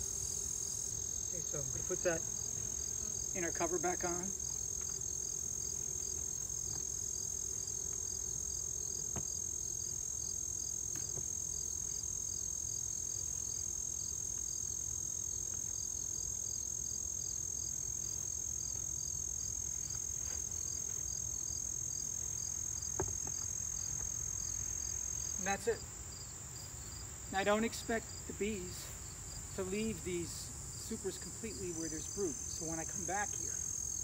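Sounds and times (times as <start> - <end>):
insects trilling and chirping: 0.0 - 34.0.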